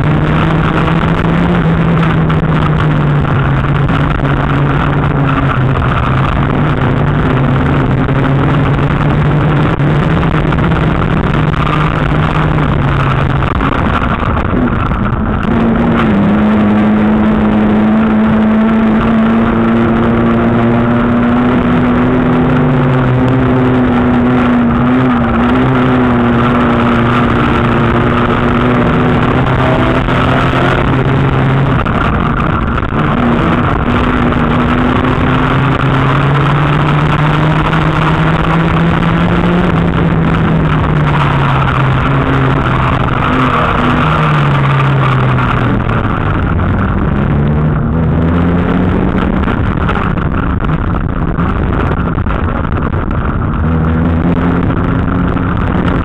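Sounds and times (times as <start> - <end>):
car engine running and revving: 0.0 - 56.0.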